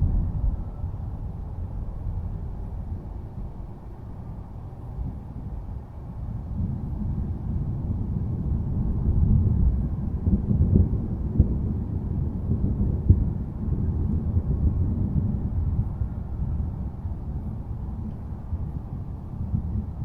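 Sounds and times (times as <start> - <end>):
rolling thunder rumble: 0.0 - 20.0
thunder crackles: 0.0 - 20.0.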